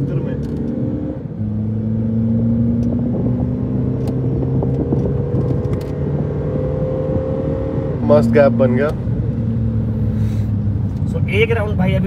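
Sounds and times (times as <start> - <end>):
car engine accelerating hard: 0.0 - 12.0
road and tyre noise: 0.0 - 12.0.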